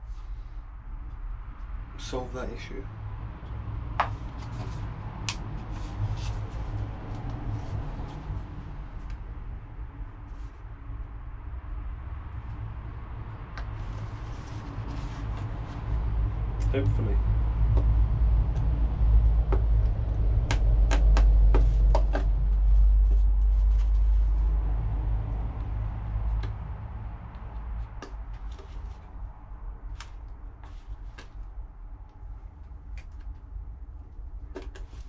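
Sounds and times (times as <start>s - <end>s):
low rumble: 0.0s - 34.5s.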